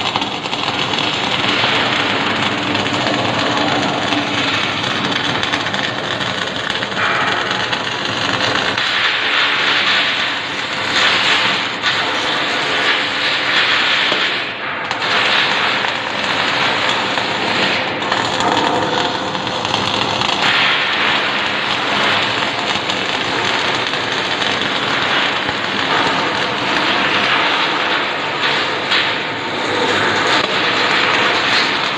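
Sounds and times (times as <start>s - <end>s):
welding arc crackling: 0.0s - 31.9s.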